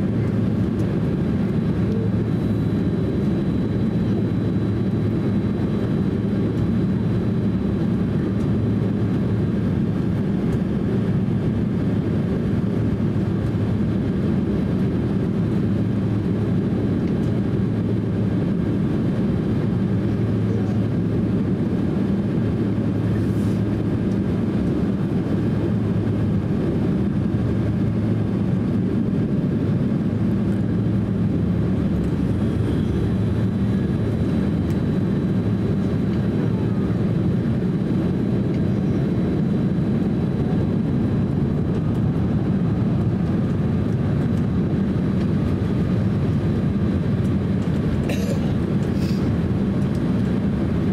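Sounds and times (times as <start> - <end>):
jet engines humming in cabin: 0.0 - 50.9.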